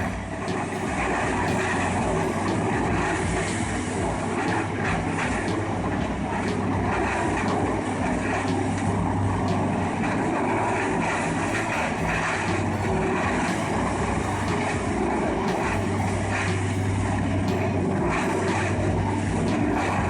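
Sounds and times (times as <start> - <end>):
heavy engine hum: 0.0 - 20.0.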